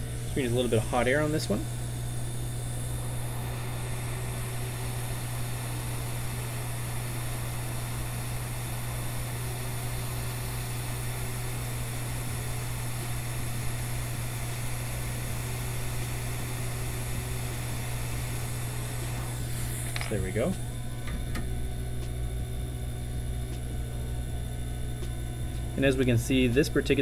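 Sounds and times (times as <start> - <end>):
hot air blower rushing: 0.0 - 21.9.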